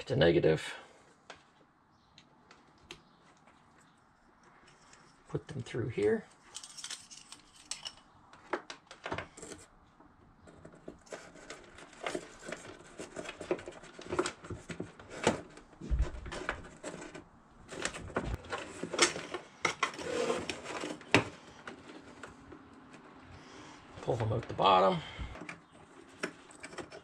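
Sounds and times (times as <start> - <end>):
wires rustling and scraping on wood: 1.2 - 27.0.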